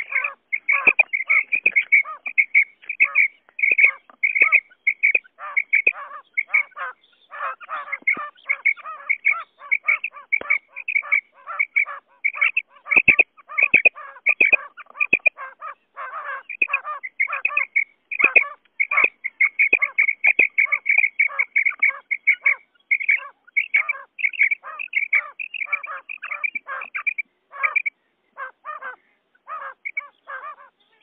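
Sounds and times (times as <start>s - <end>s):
quail calling: 0.0s - 31.0s.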